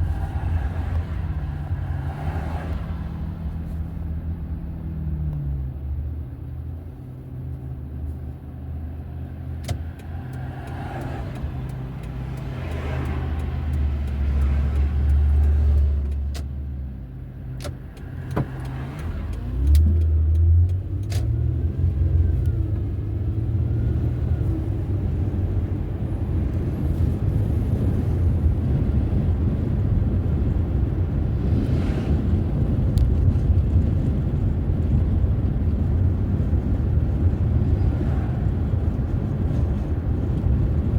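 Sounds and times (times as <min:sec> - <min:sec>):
car engine: 0:00.0 - 0:40.9
road noise: 0:00.0 - 0:40.9.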